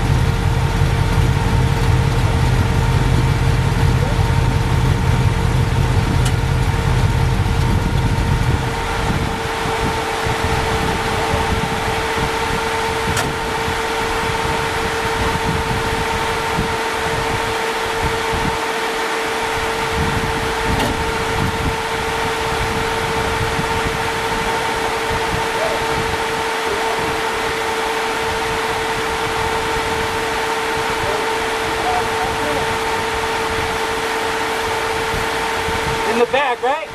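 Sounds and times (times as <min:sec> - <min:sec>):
race engine rumbling: 0:00.0 - 0:36.9
steady whine and hiss: 0:06.2 - 0:36.9.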